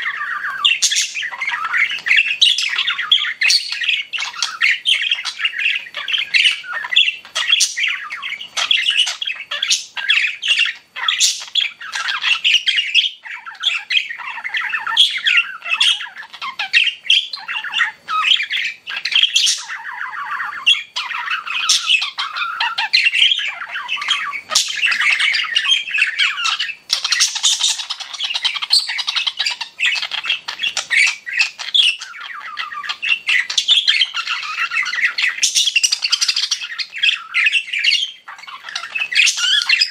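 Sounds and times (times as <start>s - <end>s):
budgies chirping and warbling: 0.0s - 39.9s.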